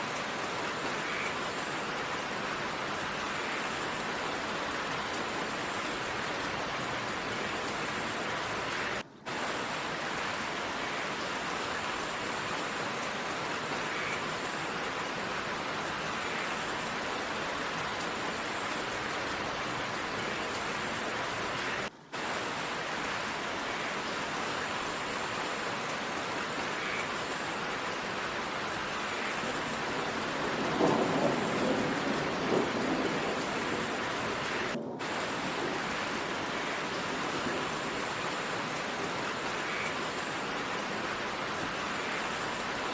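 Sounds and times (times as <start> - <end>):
heavy rain downpour: 0.0 - 42.9.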